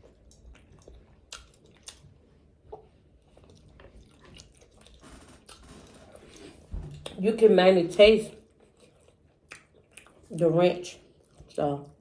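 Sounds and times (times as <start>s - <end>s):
wet chewing and smacking: 0.0s - 7.2s, 8.4s - 12.0s.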